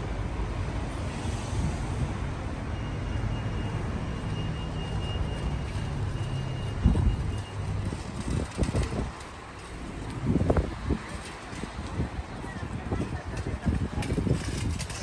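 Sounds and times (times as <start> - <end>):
vehicle engines humming: 0.0 - 15.0.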